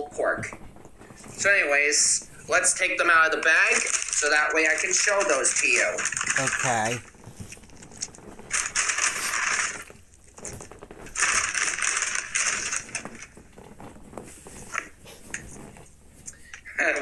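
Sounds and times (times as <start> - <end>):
paper bag and foil crinkling: 0.4 - 15.6.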